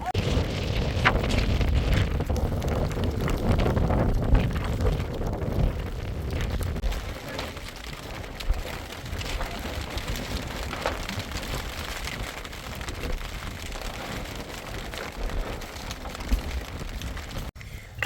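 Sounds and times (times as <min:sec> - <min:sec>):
rain falling: 0:00.0 - 0:17.6.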